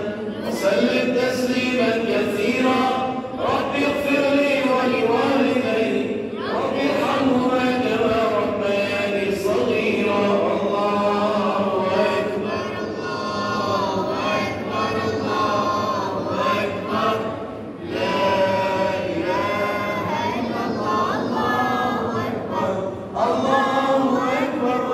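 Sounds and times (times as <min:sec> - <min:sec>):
man singing religious chant: 0:00.0 - 0:24.9.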